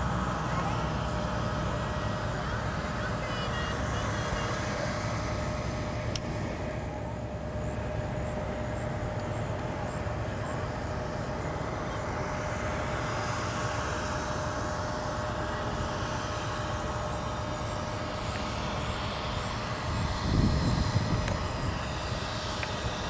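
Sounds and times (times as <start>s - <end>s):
distant aircraft engines rushing: 0.0s - 23.0s.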